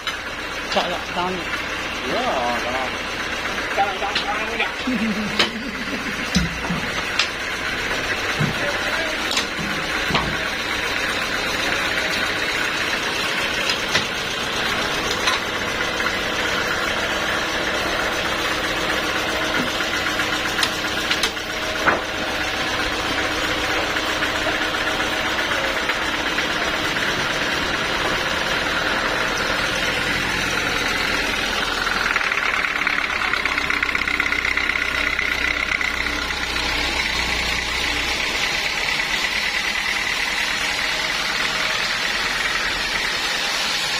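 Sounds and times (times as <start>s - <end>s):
sawmill machinery running: 0.0s - 43.9s.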